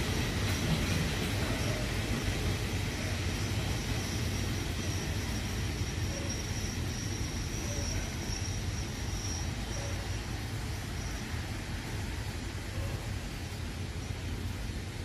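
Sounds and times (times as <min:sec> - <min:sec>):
train coaches rumbling: 0:00.0 - 0:15.0
faint high whine: 0:01.4 - 0:14.7.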